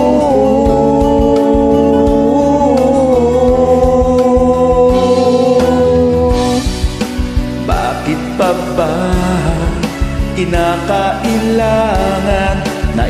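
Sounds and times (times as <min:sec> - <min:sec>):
steady bass line: 0:00.0 - 0:13.0.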